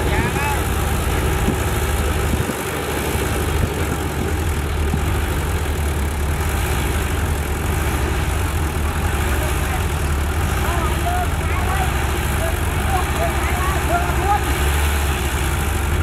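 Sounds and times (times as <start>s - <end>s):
bulldozer diesel engine rumbling: 0.0s - 16.0s.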